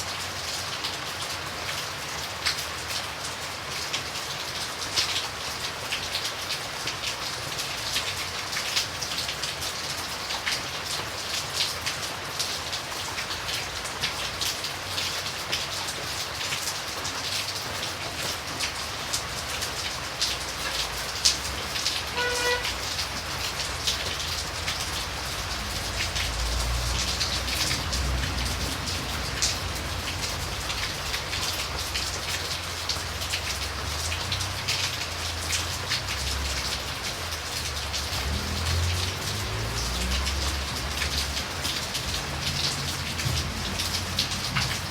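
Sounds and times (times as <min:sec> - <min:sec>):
rain drops pattering: 0:00.0 - 0:44.9.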